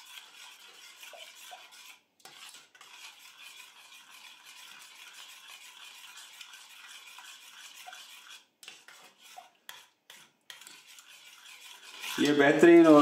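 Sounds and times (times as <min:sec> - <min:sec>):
spoon scraping metal pot: 0:00.0 - 0:13.0.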